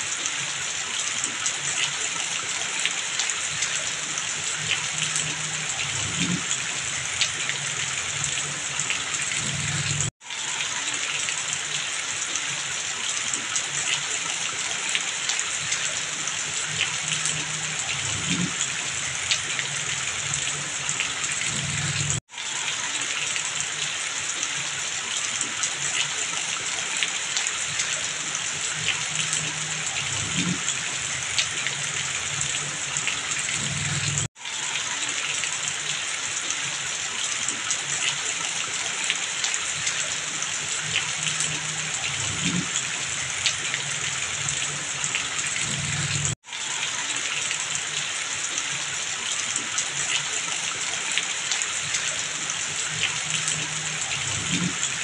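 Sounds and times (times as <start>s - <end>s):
heavy rain falling: 0.0s - 55.0s
water streaming off roof: 0.0s - 55.0s.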